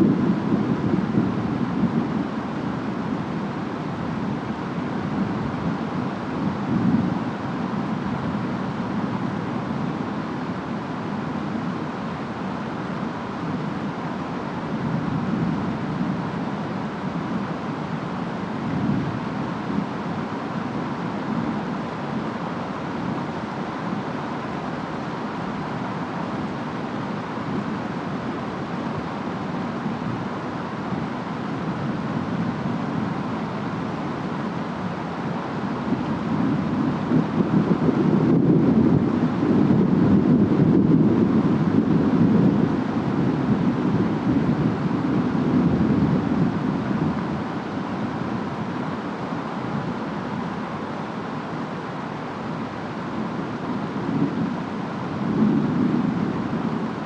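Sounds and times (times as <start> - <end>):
steady rain: 0.0 - 57.0
storm wind rumble: 0.0 - 57.0.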